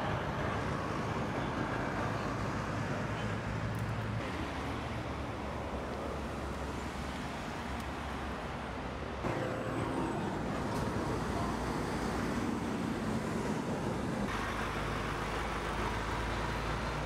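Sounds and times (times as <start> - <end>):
motorway traffic rushing: 0.0 - 17.0.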